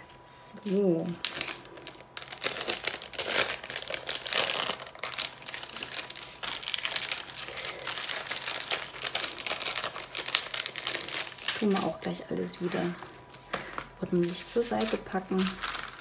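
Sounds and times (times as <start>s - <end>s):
plastic packaging crinkling: 0.1s - 16.0s.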